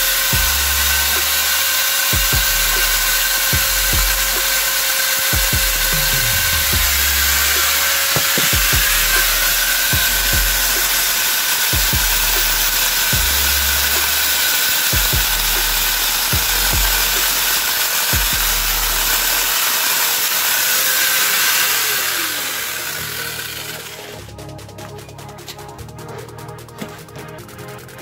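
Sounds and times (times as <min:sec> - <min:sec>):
electric chainsaw cutting branch: 0:00.0 - 0:24.3
motor winding down whine: 0:00.0 - 0:24.3.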